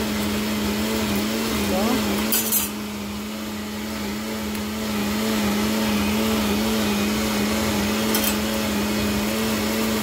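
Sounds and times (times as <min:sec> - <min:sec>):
electric blender running: 0:00.0 - 0:10.0.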